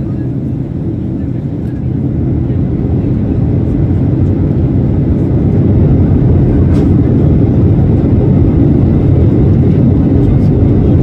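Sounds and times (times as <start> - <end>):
airliner engine rumble in cabin: 0.0 - 11.0.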